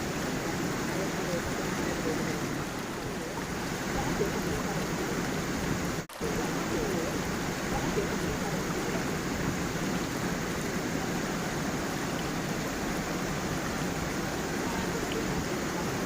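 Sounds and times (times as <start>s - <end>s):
stream and waterfall splashing: 0.0s - 16.0s.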